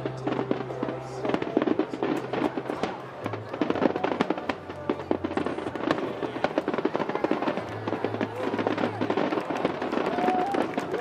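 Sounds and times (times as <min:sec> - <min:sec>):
music playing: 0:00.0 - 0:11.0.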